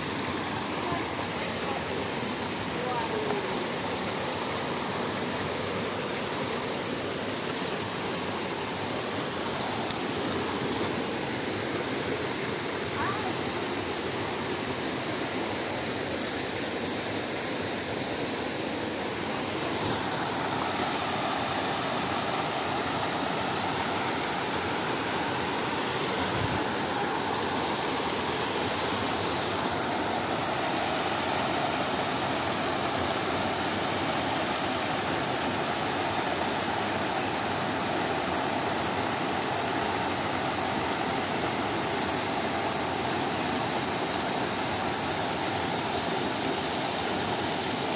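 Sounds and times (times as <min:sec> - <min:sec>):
stream rushing over rocks: 0:00.0 - 0:47.9.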